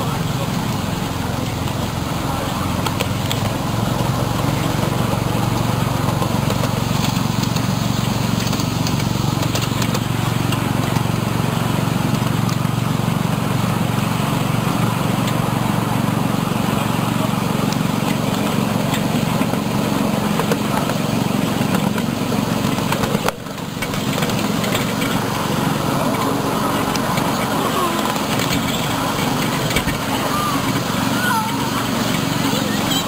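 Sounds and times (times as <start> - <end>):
miniature train wheels rumbling: 0.0 - 33.0.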